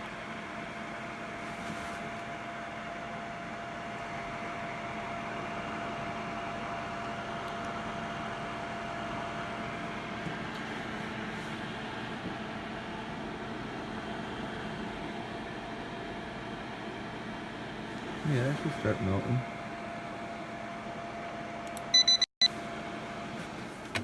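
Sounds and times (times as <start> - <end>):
heater fan hiss: 0.0 - 21.9.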